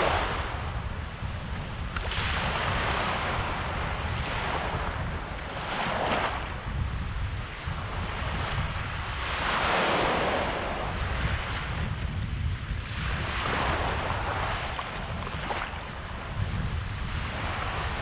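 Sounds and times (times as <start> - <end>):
waves breaking on sand: 0.0 - 18.0
wind rumbling on microphone: 0.0 - 18.0.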